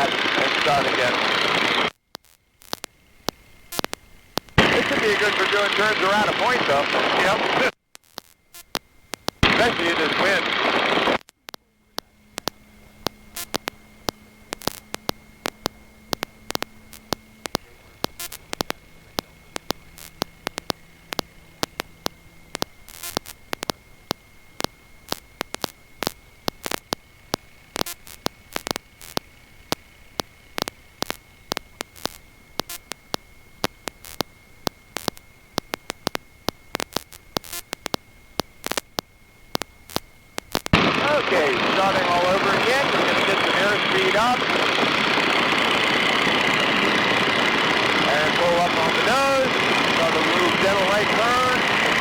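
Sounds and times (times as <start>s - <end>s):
faint low hum: 0.0s - 52.0s
low hiss: 0.0s - 52.0s
static crackles and clicks: 0.0s - 52.0s
thin high-pitched whine: 0.0s - 52.0s.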